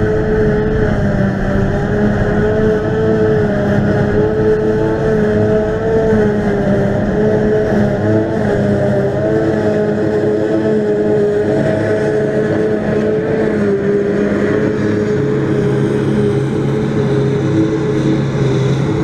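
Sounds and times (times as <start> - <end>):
forage harvester high whine: 0.0 - 19.0
tractor engine drone: 0.0 - 19.0.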